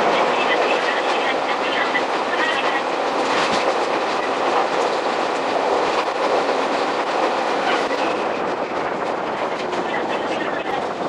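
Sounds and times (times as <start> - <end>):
wheels rumbling and clattering on rails: 0.0 - 11.0.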